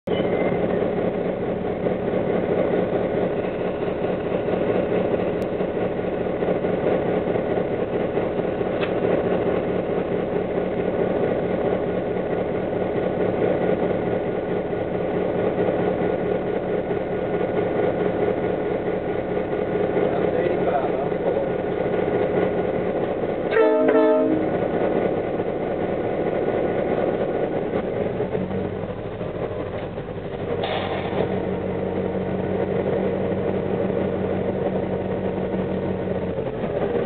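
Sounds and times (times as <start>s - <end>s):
diesel locomotive engine idling: 0.0s - 37.0s.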